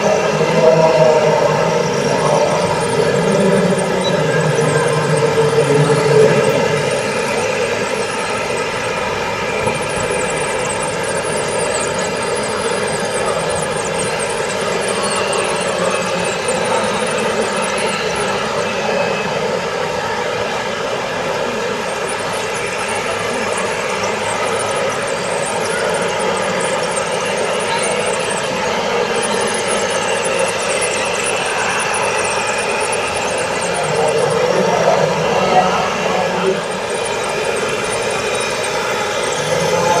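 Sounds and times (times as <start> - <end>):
motor whine: 0.0 - 40.0.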